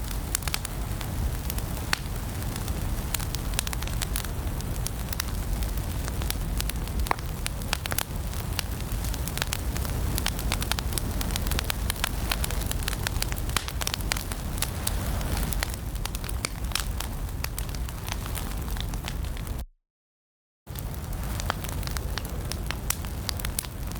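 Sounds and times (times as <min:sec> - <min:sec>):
wood fire crackling and popping: 0:00.0 - 0:19.6, 0:20.7 - 0:23.9.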